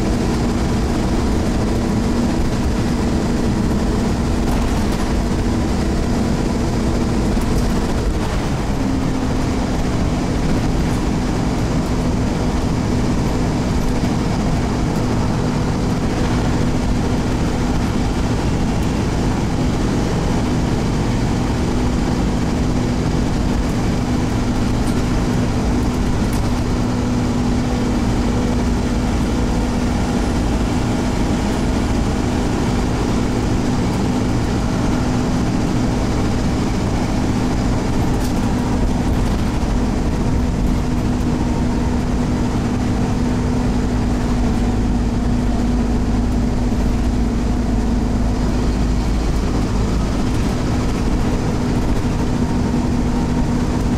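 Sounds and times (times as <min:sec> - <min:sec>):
bus engine drone: 0:00.0 - 0:53.9
road noise: 0:00.0 - 0:53.9.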